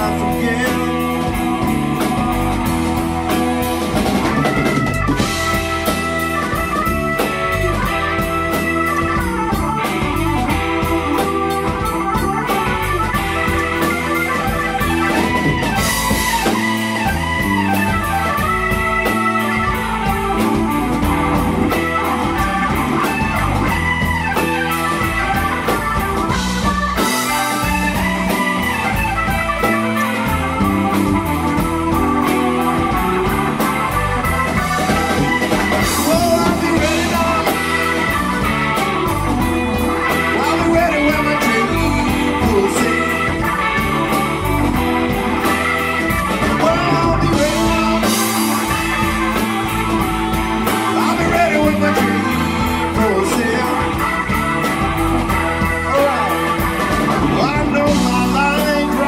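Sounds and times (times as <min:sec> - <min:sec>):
blues-rock band playing: 0:00.0 - 0:59.0.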